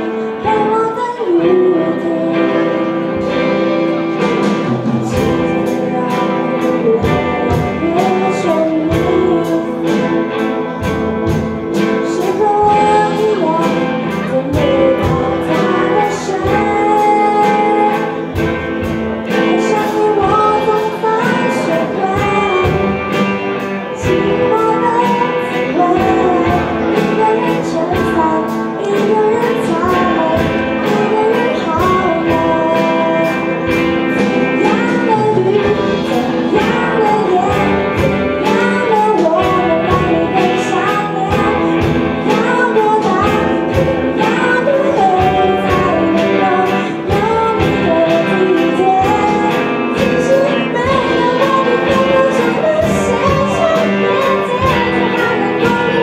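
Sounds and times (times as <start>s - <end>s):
electric guitars: 0.0s - 56.0s
woman singing: 0.0s - 56.0s
drum kit beat: 2.4s - 56.0s.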